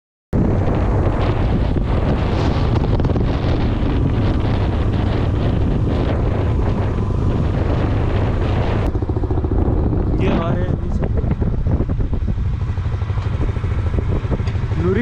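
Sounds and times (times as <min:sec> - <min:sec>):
motorcycle engine running: 0:00.4 - 0:15.0
wind buffeting microphone: 0:00.4 - 0:15.0.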